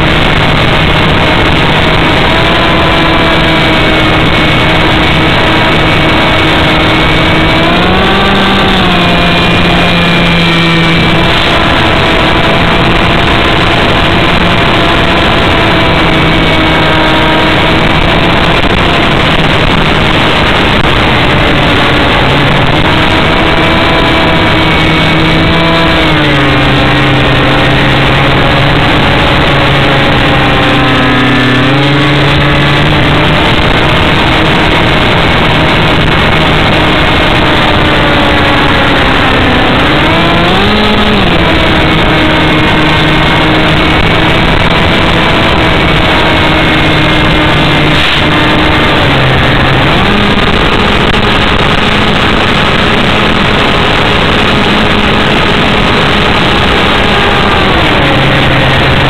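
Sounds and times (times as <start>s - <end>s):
model plane motor drone: 0.0s - 59.0s
wind rush: 0.0s - 59.0s.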